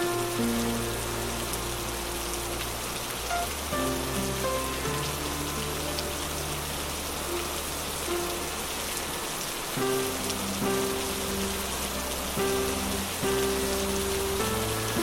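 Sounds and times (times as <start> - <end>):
soft ambient music: 0.0 - 15.0
steady rain: 0.0 - 15.0.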